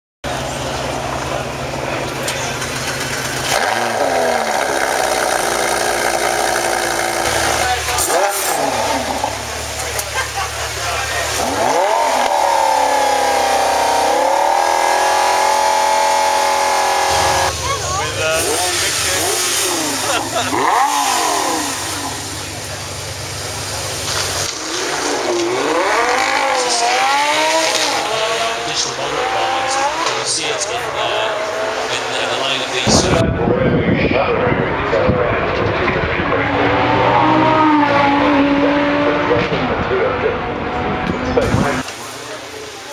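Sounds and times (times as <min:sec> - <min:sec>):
low engine drone: 0:00.2 - 0:42.4
sports car engine starting and idling: 0:00.3 - 0:42.9.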